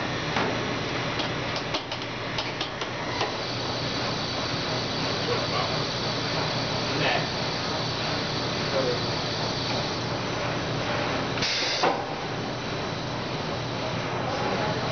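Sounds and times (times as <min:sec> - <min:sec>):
conveyor machine hum: 0:00.0 - 0:14.9.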